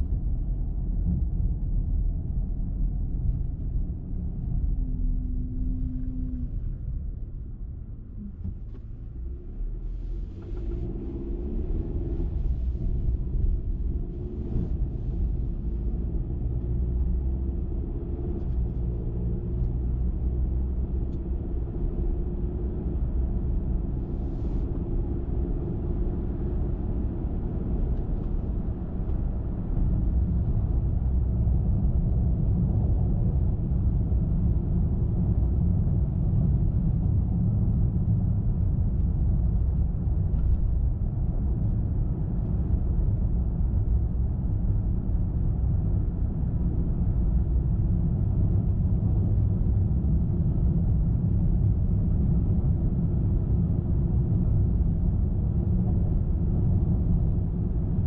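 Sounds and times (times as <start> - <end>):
car engine rumble: 0.0 - 58.0.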